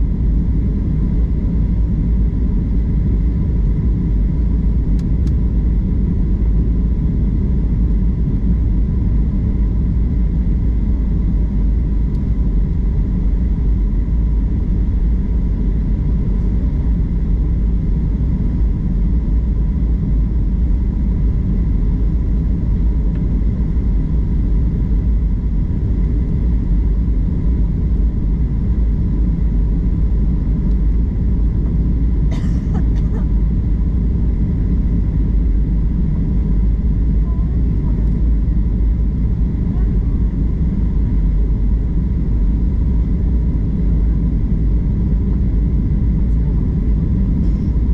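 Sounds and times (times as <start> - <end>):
airliner engines rumbling: 0.0 - 47.9
faint steady whine: 0.0 - 47.9.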